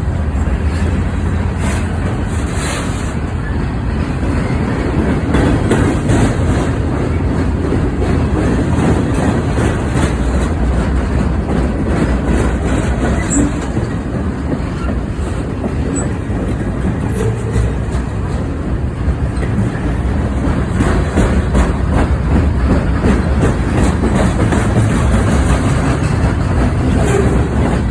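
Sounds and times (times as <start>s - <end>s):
train rumbling on rails: 0.0s - 27.9s
wheels clicking over rail joints: 0.0s - 27.9s.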